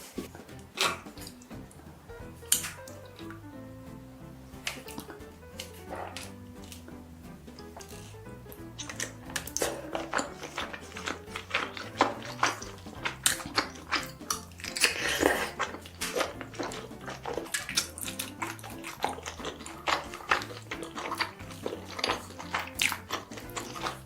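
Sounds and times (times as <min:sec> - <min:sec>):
wet chewing and lip-smacking: 0:00.0 - 0:03.4, 0:04.5 - 0:24.0
soft background music: 0:00.0 - 0:24.0.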